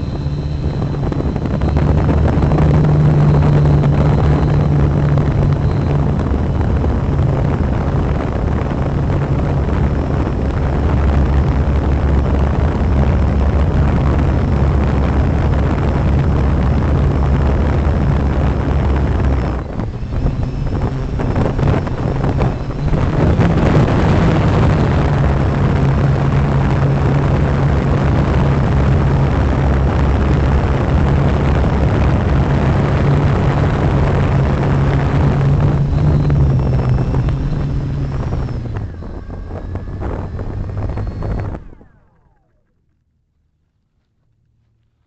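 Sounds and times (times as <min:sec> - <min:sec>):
drone propellers humming: 0:00.0 - 0:43.0
rotors spinning down whine: 0:00.0 - 0:45.0.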